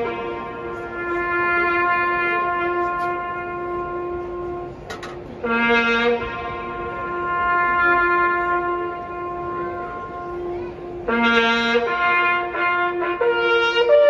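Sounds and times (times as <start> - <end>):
solo trumpet bugle call: 0.0 - 14.0.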